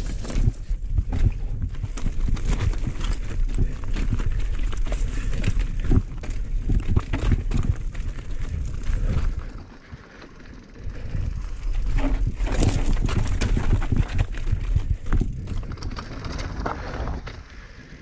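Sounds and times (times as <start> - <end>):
tyres crunching over loose stones: 0.0 - 10.4, 11.4 - 17.5
bike rattling and knocking: 0.0 - 17.4.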